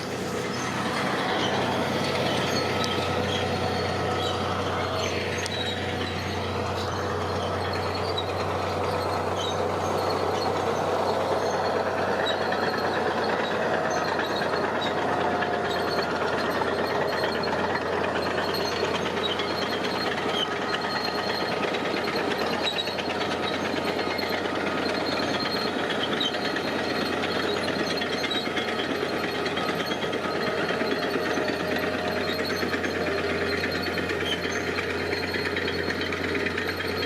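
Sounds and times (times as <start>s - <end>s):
construction machine diesel engine: 0.0s - 37.0s.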